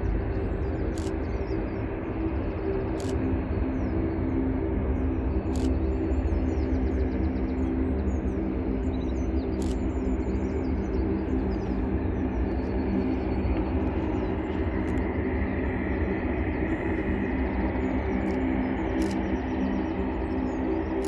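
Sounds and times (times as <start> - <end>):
high engine whine: 0.0 - 21.0
jet engines rumbling: 0.0 - 21.0
small birds chirping: 0.3 - 21.0.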